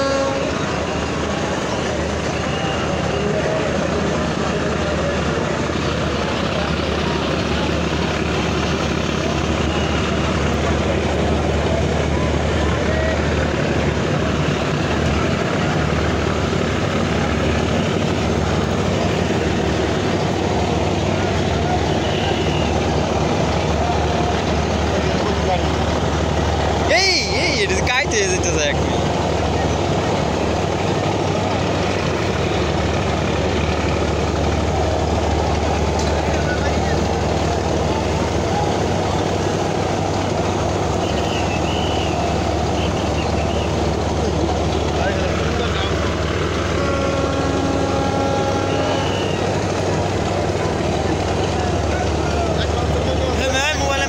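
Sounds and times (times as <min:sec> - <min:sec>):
boat diesel engine drone: 0:00.0 - 0:54.0.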